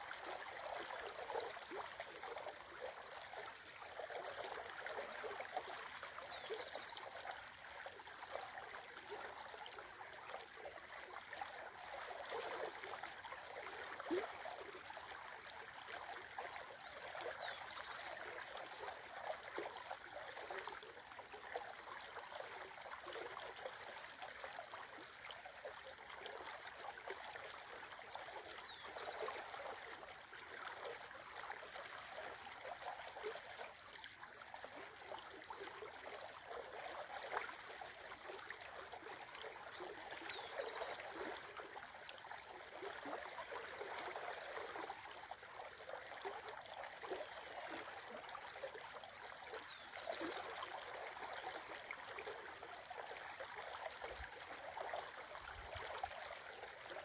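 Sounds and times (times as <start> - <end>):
river water babbling: 0.0 - 57.0.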